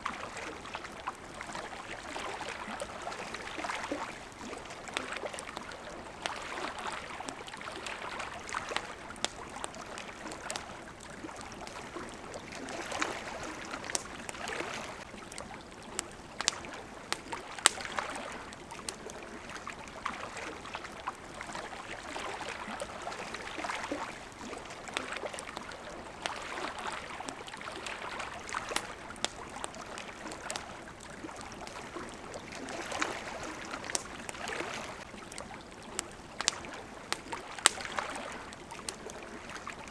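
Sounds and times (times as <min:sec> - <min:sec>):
campfire crackling: 0:00.0 - 0:39.9
small waves lapping at shore: 0:00.0 - 0:39.9.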